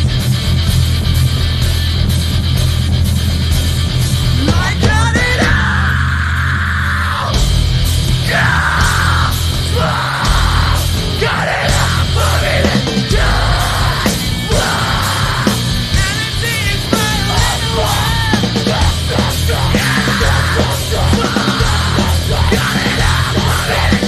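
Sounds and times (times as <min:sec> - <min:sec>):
rock band playing live: 0:00.0 - 0:24.0
singer yelling and screaming: 0:04.4 - 0:24.0.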